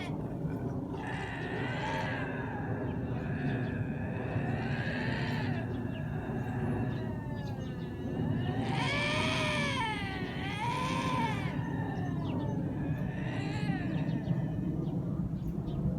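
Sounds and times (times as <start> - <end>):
lynx yowling: 0.0 - 2.6, 3.2 - 14.7.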